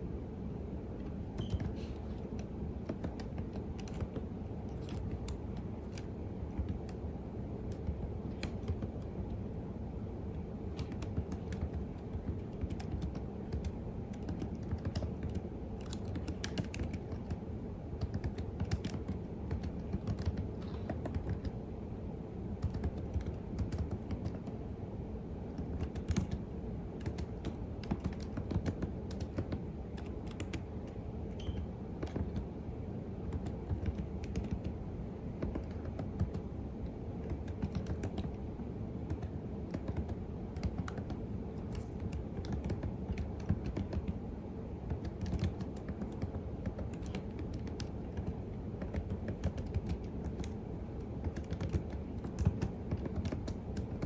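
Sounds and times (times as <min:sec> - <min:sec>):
low background hum: 0:00.0 - 0:54.0
keyboard key clicks: 0:01.0 - 0:07.0, 0:07.6 - 0:09.1, 0:10.4 - 0:17.4, 0:18.0 - 0:21.6, 0:22.6 - 0:24.6, 0:25.6 - 0:26.4, 0:27.0 - 0:32.5, 0:33.3 - 0:34.8, 0:35.4 - 0:36.4, 0:37.2 - 0:38.4, 0:39.1 - 0:44.2, 0:44.9 - 0:54.0.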